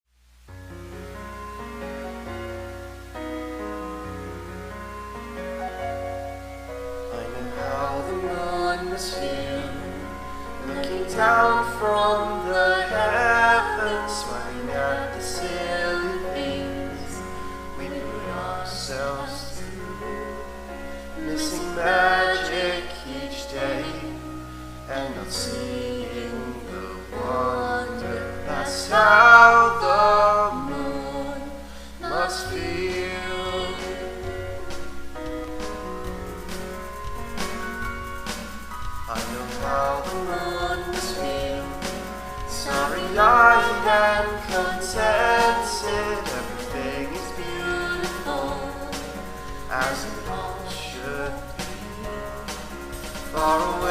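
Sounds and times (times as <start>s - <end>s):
gentle instrumental accompaniment: 0.4s - 53.9s
person singing with vibrato: 6.9s - 53.9s.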